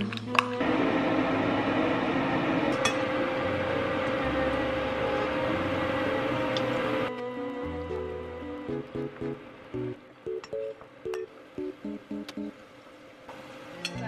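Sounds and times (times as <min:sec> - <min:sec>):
soft background music: 0:00.0 - 0:12.6.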